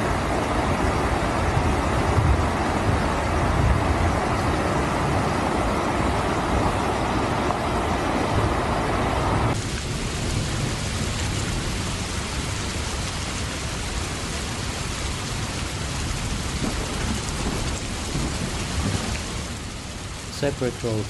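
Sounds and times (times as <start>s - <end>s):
heavy rain on floodwater: 0.0s - 21.0s.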